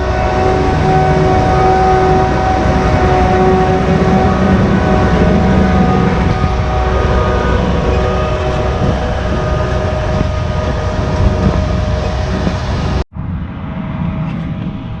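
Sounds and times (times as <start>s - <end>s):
diesel farm machinery droning: 0.0s - 15.0s.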